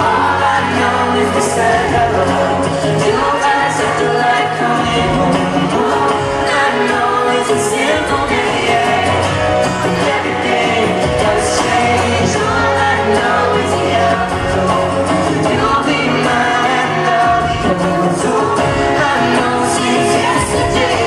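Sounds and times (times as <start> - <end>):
people singing duet: 0.0 - 21.0
strummed acoustic guitars: 0.0 - 21.0.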